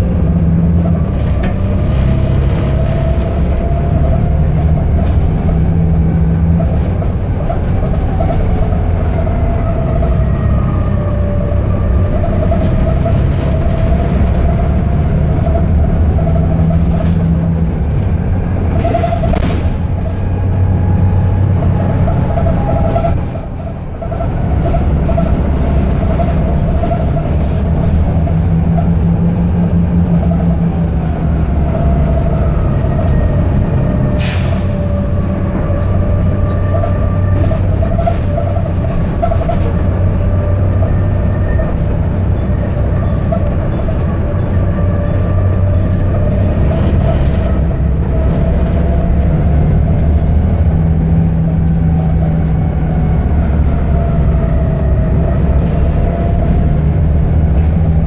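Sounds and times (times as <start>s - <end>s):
bus engine drone: 0.0s - 58.0s
drivetrain whine: 0.0s - 58.0s.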